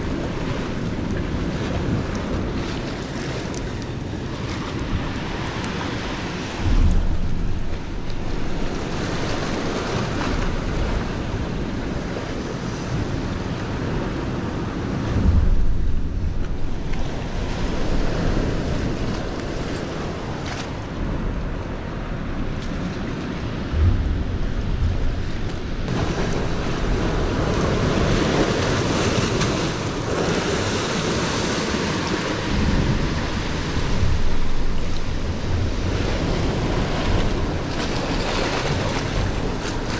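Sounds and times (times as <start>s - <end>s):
sea swell washing against rocks: 0.0s - 39.9s
wind buffeting microphone: 0.0s - 39.9s.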